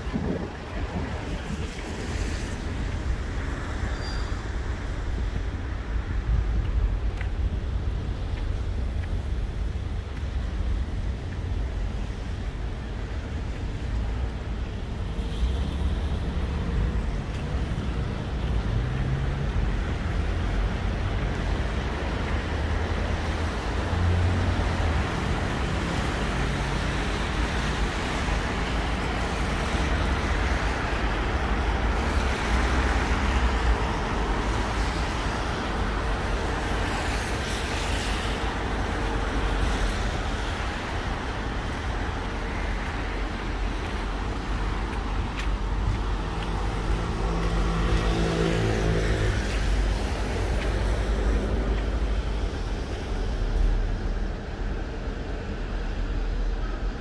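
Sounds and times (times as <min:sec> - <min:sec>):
traffic engine rumble: 0:00.0 - 0:57.0.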